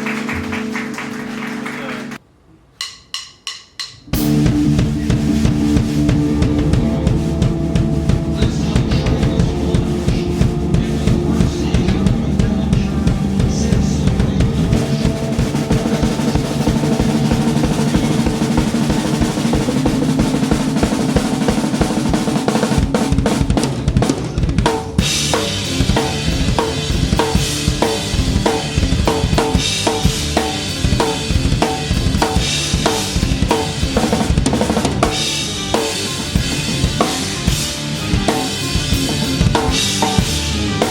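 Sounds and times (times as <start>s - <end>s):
live band playing: 4.1s - 40.9s.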